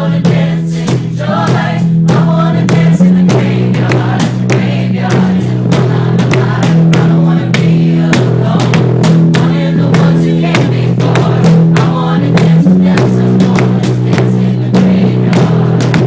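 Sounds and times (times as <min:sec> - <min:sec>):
group of voices singing: 0:00.0 - 0:16.0
steady beat of sharp strokes: 0:00.0 - 0:16.0
sustained low notes: 0:01.2 - 0:16.0.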